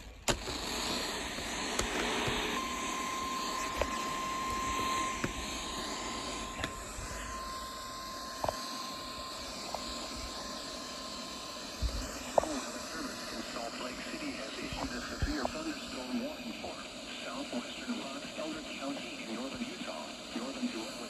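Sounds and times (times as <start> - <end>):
steady noisy background: 0.0 - 21.0
steady warning alarm tone: 0.0 - 21.0.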